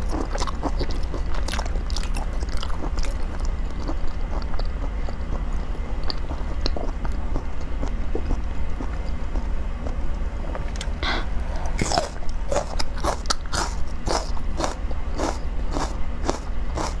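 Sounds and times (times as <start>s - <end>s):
onion being crunched and chewed: 0.0s - 11.0s, 11.6s - 17.0s
low hum: 0.0s - 17.0s.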